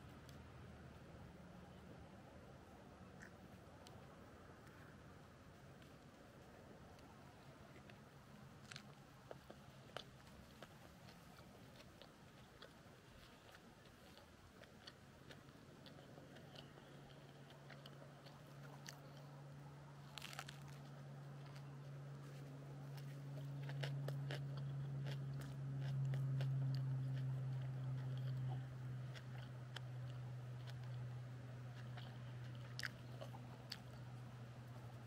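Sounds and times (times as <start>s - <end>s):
low steady hum: 0.0s - 35.0s
chewing a sandwich with crunches: 5.6s - 35.0s.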